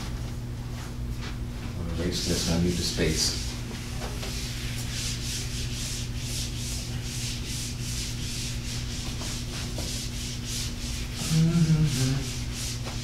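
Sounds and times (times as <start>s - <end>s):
eraser wiping whiteboard: 2.2s - 13.0s.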